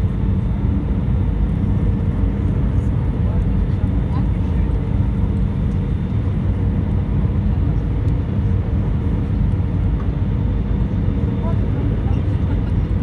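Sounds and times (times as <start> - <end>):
jet engines roaring in cabin: 0.0 - 13.0.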